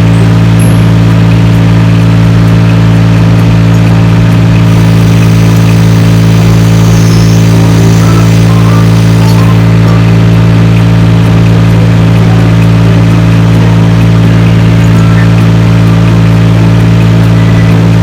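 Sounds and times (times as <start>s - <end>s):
engine running loud and steady: 0.0s - 18.0s.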